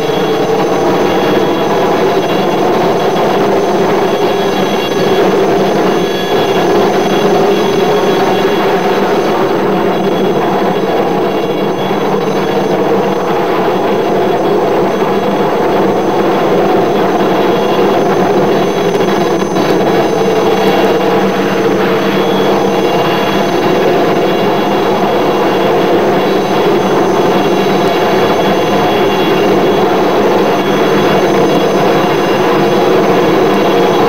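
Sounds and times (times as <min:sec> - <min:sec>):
helicopter rotor drone: 0:00.0 - 0:34.0.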